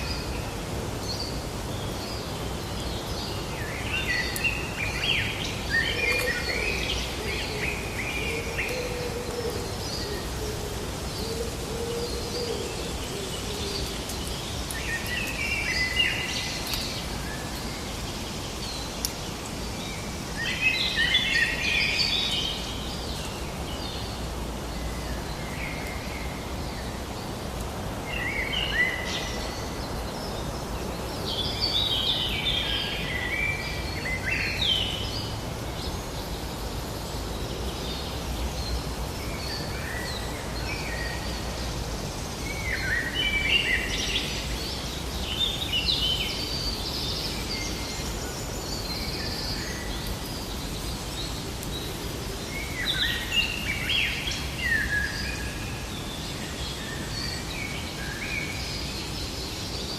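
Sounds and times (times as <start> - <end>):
low outdoor ambience: 0.0 - 59.9
songbirds warbling: 0.0 - 59.9.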